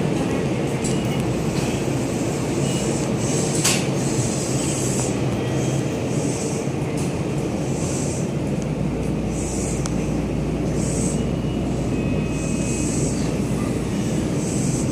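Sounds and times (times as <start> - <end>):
train low rumble: 0.0 - 14.9.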